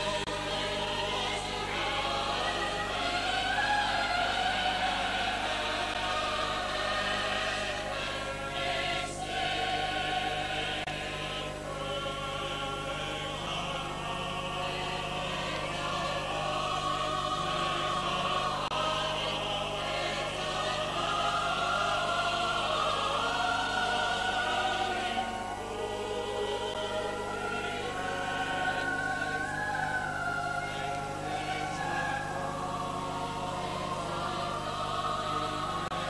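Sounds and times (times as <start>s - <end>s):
operatic choral singing: 0.0s - 36.0s.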